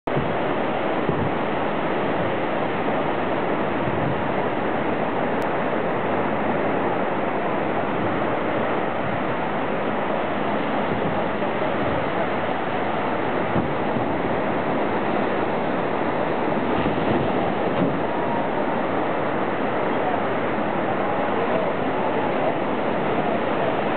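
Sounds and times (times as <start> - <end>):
ocean surf washing: 0.0 - 23.9.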